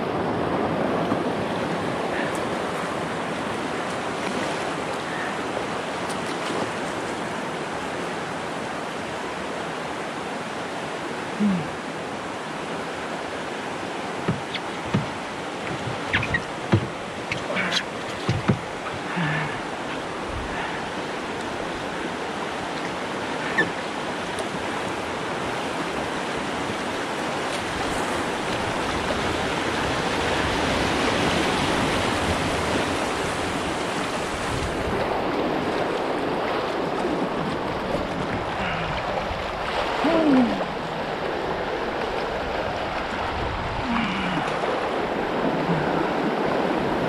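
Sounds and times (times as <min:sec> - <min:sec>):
river rapids rushing: 0:00.0 - 0:47.0.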